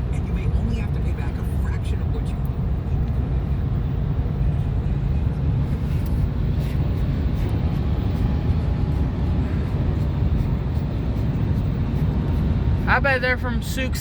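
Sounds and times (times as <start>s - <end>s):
vehicle and road rumble: 0.0s - 14.0s.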